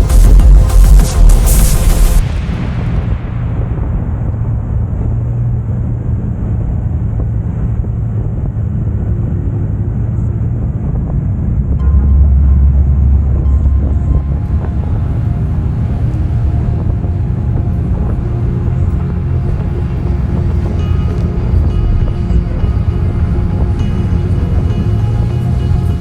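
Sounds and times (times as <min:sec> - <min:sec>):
deep engine rumble: 0:00.0 - 0:26.0
engine hum: 0:00.0 - 0:26.0
wind on microphone: 0:00.0 - 0:26.0.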